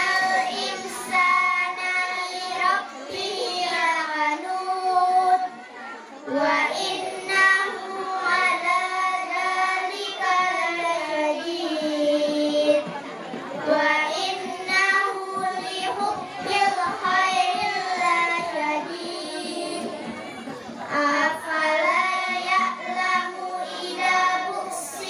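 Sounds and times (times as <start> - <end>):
girls chanting through microphones: 0.0 - 25.0.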